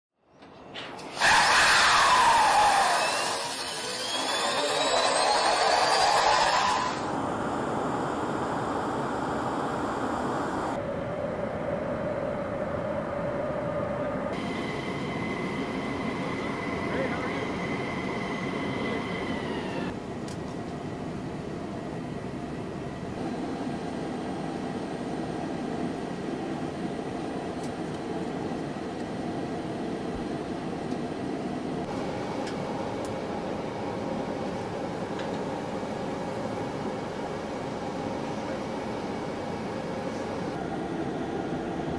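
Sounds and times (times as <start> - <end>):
jet turbine roar and whine: 0.2 - 41.9.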